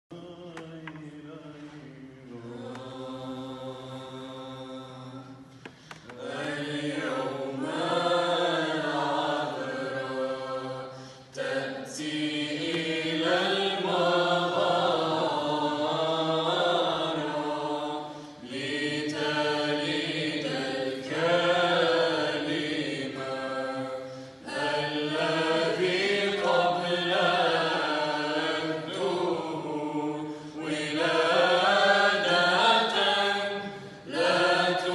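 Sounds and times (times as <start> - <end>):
choir chanting melody: 0.1 - 5.5, 6.1 - 34.9.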